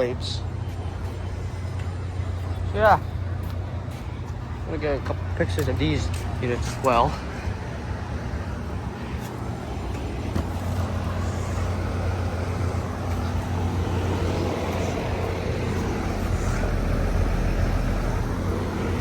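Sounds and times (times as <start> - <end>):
condenser fans rushing: 0.0 - 19.0.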